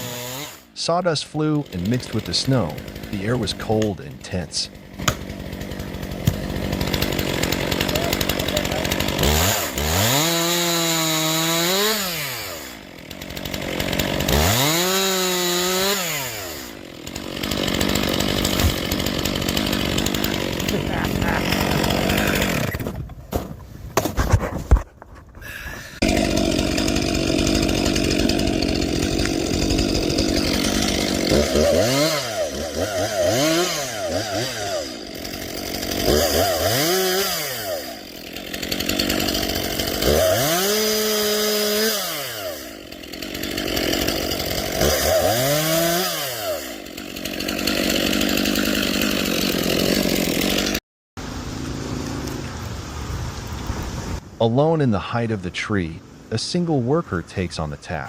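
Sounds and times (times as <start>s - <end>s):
chainsaw engine revving: 0.0s - 22.9s, 26.0s - 50.8s.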